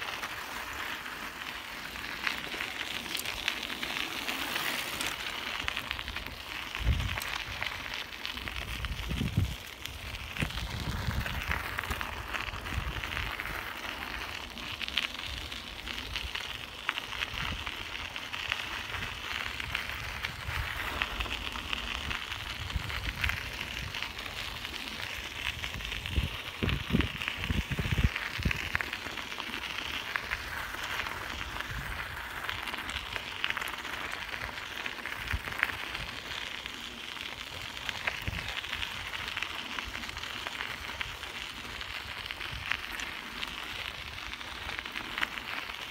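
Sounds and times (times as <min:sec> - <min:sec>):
bicycle tyres crunching gravel: 0:00.0 - 0:45.9.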